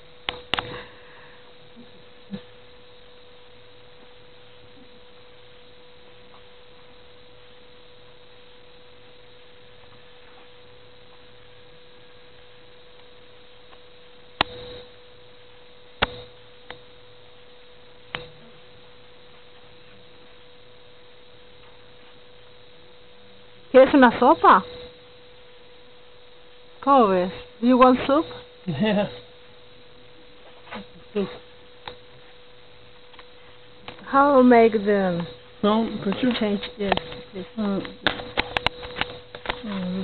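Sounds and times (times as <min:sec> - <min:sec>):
steady electrical hum: 0:00.0 - 0:40.0.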